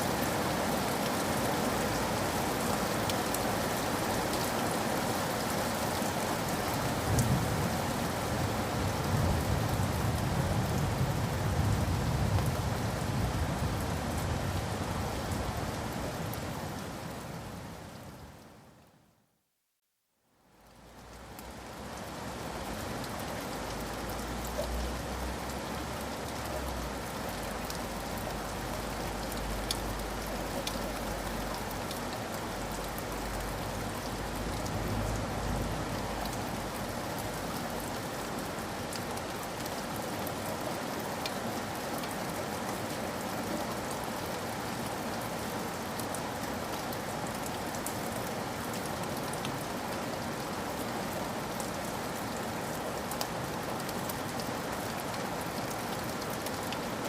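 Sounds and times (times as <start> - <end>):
steady rain with drops ticking: 0.0 - 57.0.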